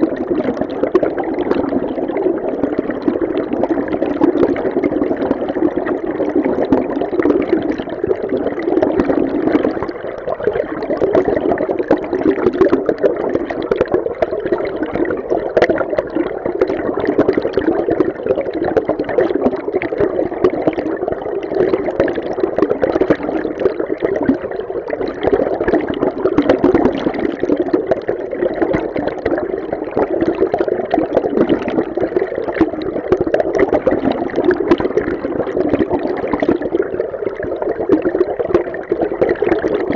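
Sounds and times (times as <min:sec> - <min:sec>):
muffled underwater stream rush: 0:00.0 - 0:39.9.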